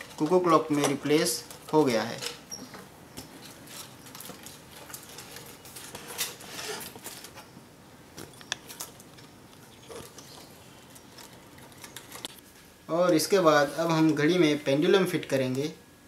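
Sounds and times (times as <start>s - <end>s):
wires rustling and clicking: 0.0s - 13.2s.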